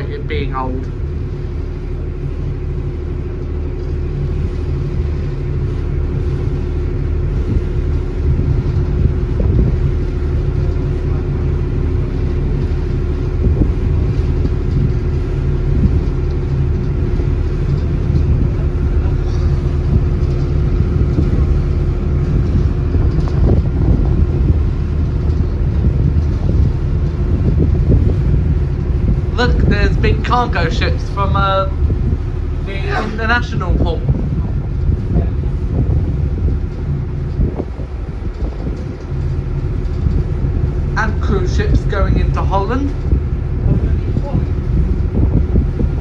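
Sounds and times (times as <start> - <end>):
ferry engine drone: 0.0 - 46.0.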